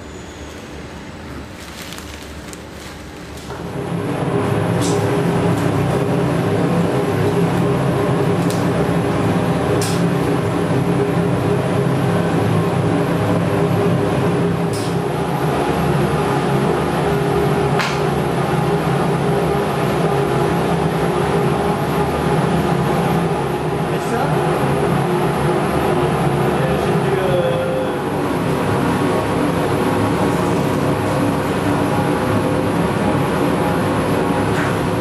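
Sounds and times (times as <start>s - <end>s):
vacuum pump humming: 0.0s - 35.0s.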